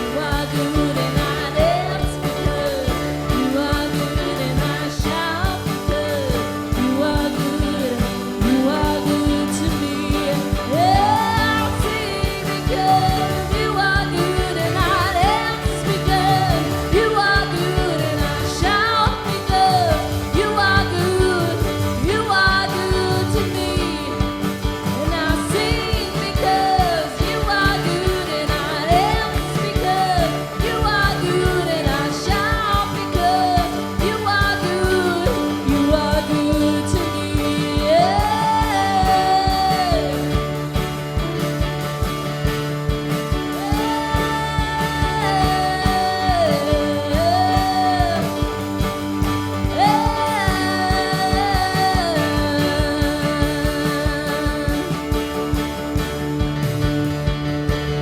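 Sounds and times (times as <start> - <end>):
person singing: 0.0 - 41.3, 43.4 - 56.2.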